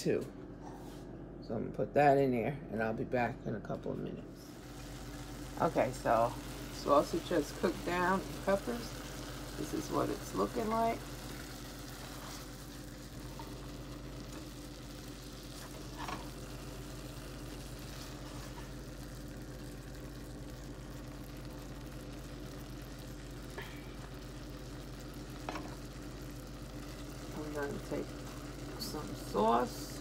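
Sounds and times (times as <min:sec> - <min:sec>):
food sizzling in a pot: 0:04.5 - 0:30.0.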